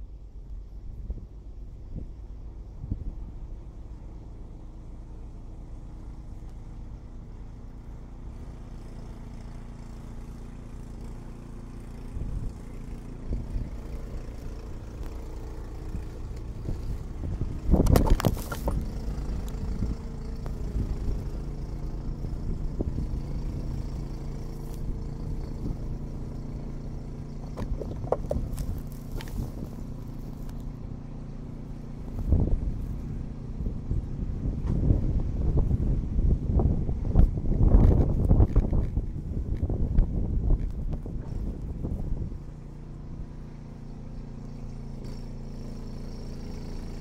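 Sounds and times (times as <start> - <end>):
snowblower running: 0.0 - 47.0.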